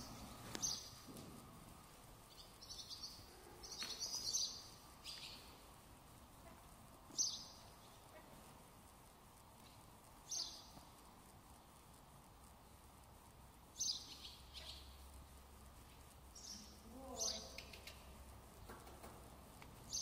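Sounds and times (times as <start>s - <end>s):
small birds chirping: 0.0s - 1.0s, 2.0s - 20.0s.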